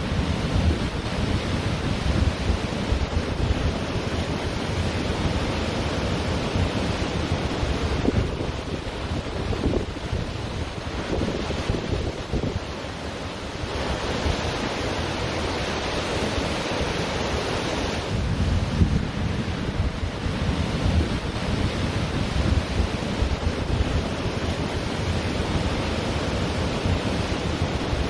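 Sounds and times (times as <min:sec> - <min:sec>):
wind buffeting microphone: 0:00.0 - 0:12.8, 0:17.8 - 0:28.0
ocean surf washing on beach: 0:00.0 - 0:28.0.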